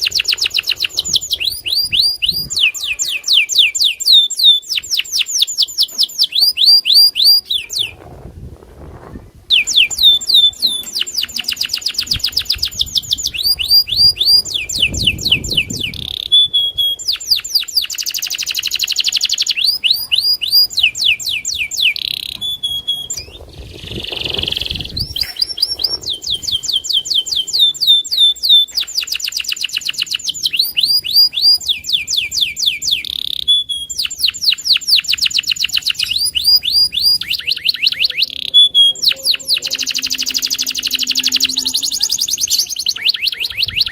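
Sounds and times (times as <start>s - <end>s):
canary singing trills: 0.0s - 8.0s, 9.5s - 43.9s.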